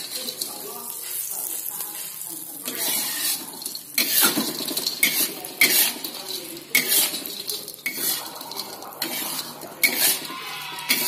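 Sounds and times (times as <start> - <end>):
food sizzling: 0.0 - 11.0
spatula scraping a wok: 0.0 - 11.0.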